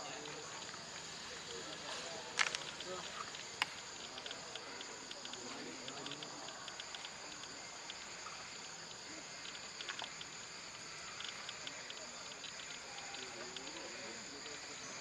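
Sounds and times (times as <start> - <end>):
faint clicks: 0.0 - 15.0
forest insects droning: 0.0 - 15.0.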